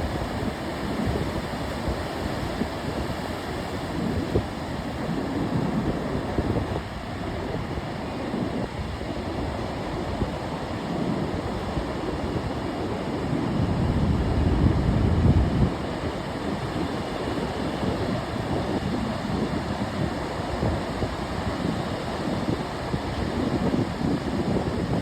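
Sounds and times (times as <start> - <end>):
wind gusting on microphone: 0.0 - 25.0.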